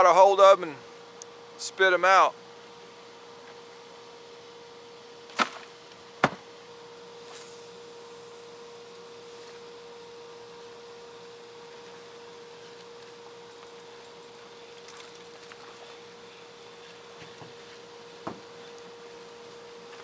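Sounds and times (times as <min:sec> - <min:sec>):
steady one-tone hum: 0:00.0 - 0:20.0.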